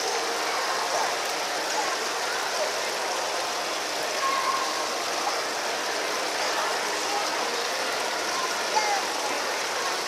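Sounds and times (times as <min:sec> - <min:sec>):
faint indistinct voices: 0:00.0 - 0:10.0
fountain water splashing into pool: 0:00.0 - 0:10.0.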